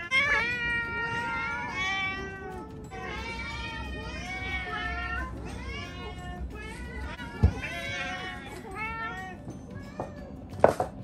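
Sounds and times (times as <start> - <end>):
cats meowing: 0.0 - 10.2.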